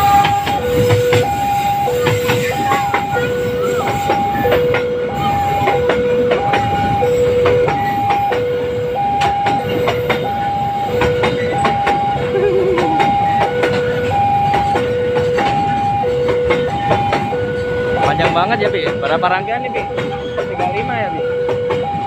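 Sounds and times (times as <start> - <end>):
freight train rumbling past: 0.0 - 22.0
level-crossing two-tone alarm: 0.0 - 22.0.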